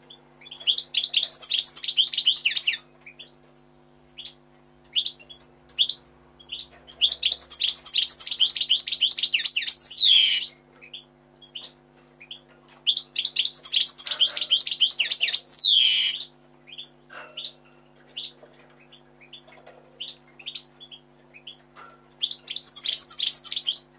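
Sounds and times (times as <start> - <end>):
bird chirps: 0.0 - 23.9
faint steady hum: 0.0 - 23.9
finch twittering: 0.4 - 23.9.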